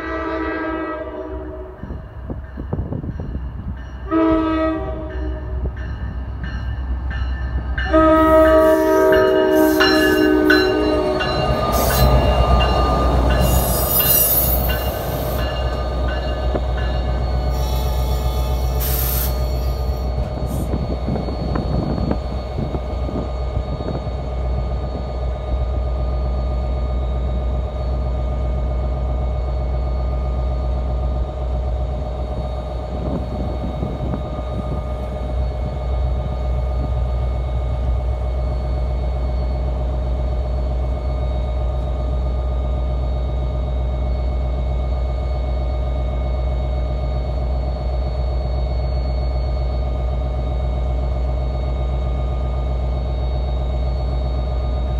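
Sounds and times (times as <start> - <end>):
diesel locomotive idling: 0.0 - 54.9.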